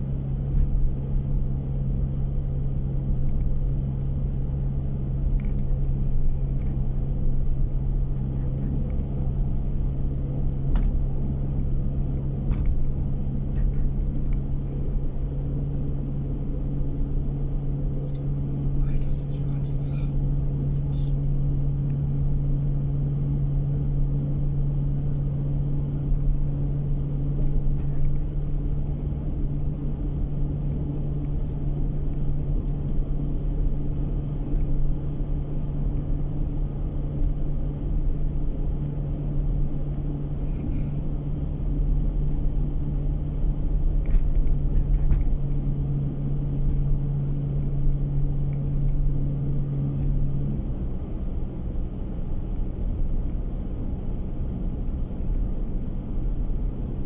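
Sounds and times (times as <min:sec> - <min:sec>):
car engine drone: 0:00.0 - 0:57.0.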